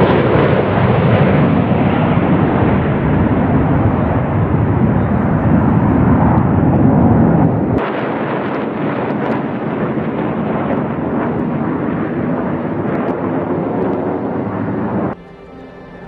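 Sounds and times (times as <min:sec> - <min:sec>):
jet roar flying over: 0:00.0 - 0:16.0.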